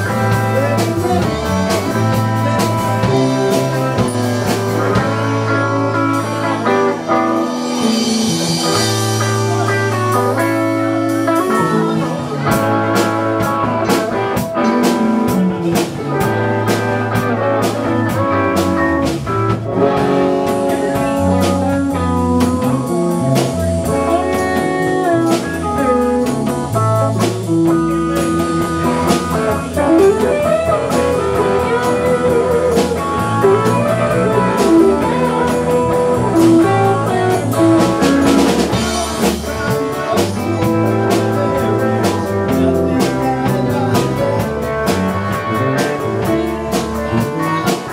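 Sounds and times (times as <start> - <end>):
drum kit: 0.0 - 47.9
electric guitar bending notes: 0.0 - 47.9
low bass line: 0.0 - 47.9.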